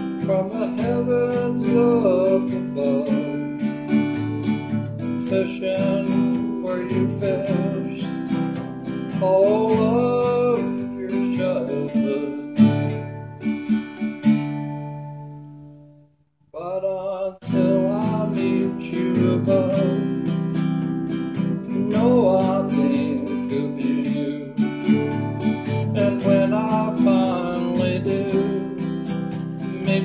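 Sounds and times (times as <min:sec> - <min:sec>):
strummed acoustic guitar music: 0:00.0 - 0:30.0.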